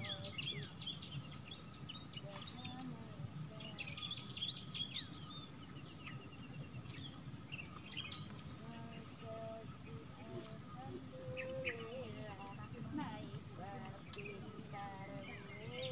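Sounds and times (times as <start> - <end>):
birds chirping: 0.0 - 15.9
high-pitched insect drone: 0.0 - 15.9.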